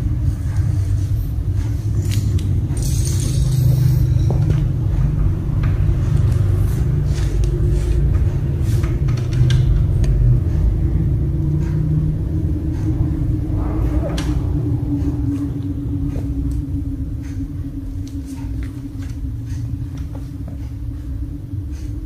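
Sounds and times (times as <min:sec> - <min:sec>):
low rumble and hum: 0:00.0 - 0:22.0.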